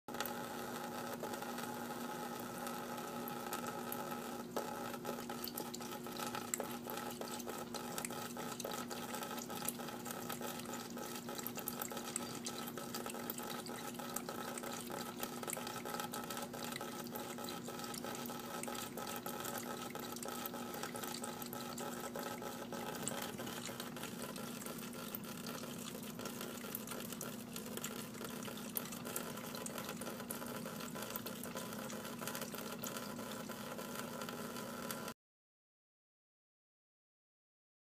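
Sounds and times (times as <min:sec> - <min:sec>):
water running: 0:00.1 - 0:35.1.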